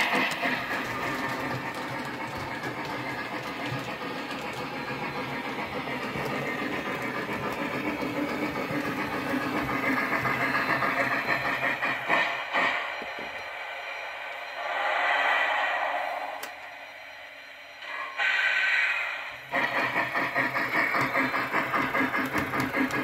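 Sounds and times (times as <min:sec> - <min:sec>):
model train steam chuff: 0:00.0 - 0:16.9, 0:17.8 - 0:23.0.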